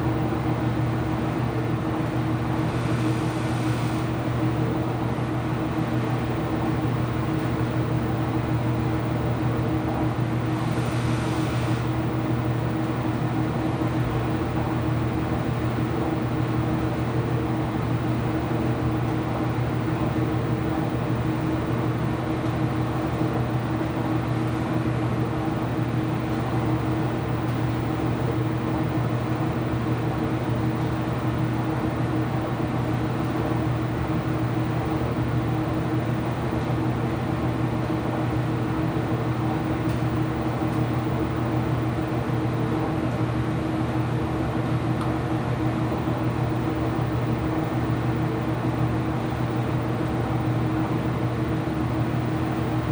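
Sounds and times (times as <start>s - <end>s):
washing machine humming: 0.0s - 52.9s.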